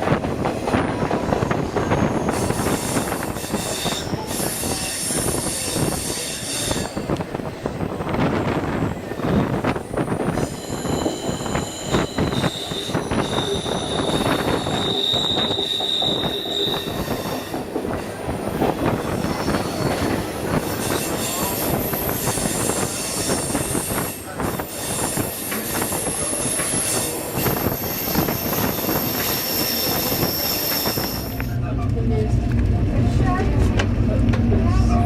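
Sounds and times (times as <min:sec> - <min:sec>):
rumble and clatter of train cars: 0:00.0 - 0:35.0
train wheels squealing on rails: 0:00.4 - 0:31.6.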